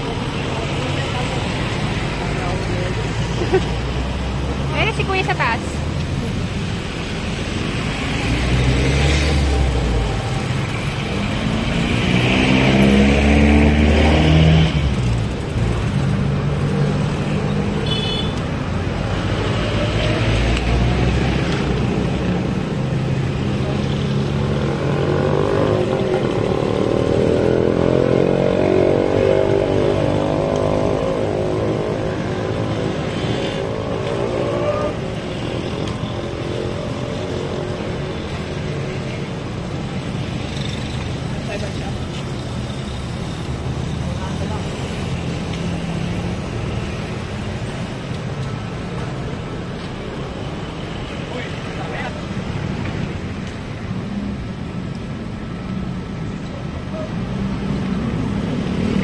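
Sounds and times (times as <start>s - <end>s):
motorcycle engines climbing: 0.0s - 59.0s.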